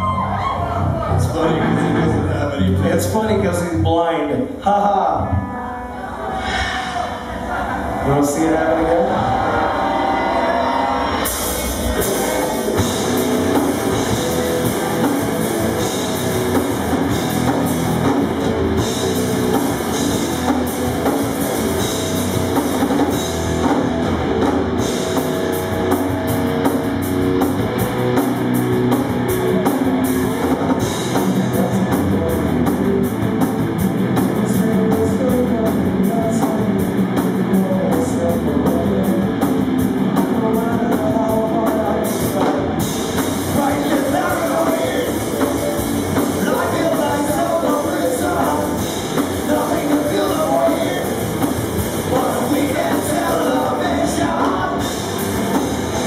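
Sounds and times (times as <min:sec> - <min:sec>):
electric guitars: 0:00.0 - 0:56.0
drum kit beat: 0:11.0 - 0:56.0.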